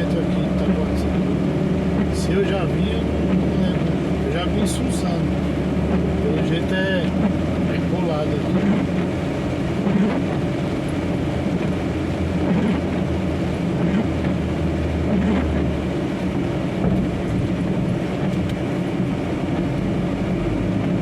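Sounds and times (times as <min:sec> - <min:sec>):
road noise: 0:00.0 - 0:21.0
truck engine drone: 0:00.0 - 0:21.0.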